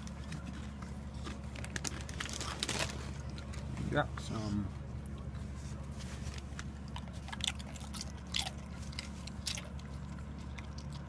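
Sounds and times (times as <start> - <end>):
chewing with crunches: 0.0 - 3.8, 5.0 - 11.0
steady low hum: 0.0 - 11.0.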